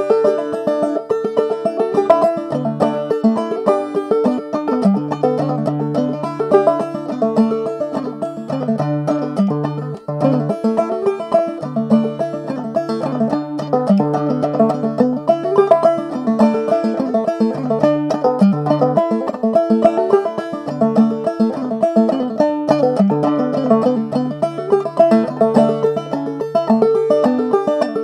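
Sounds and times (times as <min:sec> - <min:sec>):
banjo playing a reel: 0:00.0 - 0:28.0.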